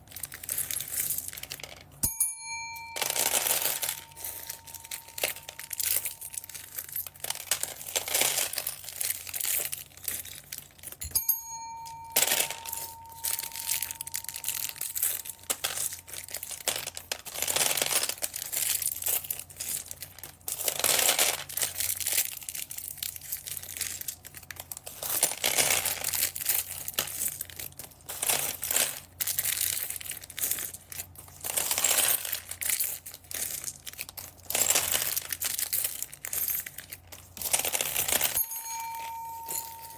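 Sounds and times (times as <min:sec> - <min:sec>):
plastic bags crinkling: 0:00.0 - 0:02.0, 0:03.0 - 0:11.0, 0:12.0 - 0:39.9.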